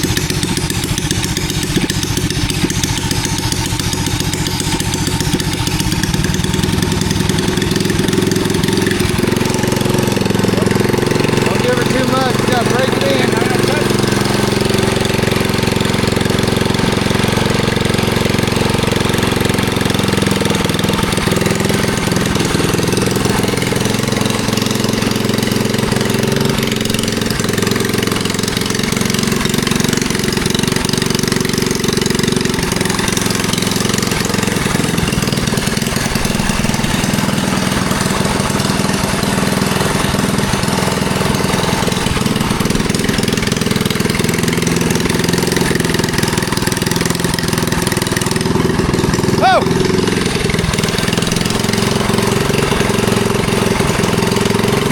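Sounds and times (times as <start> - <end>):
small engine running at low throttle: 0.0 - 54.9.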